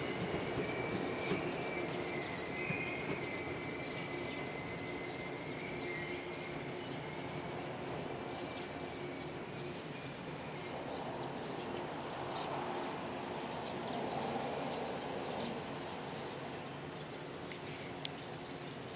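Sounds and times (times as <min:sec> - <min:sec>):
distant electric train rumbling: 0:00.0 - 0:18.9.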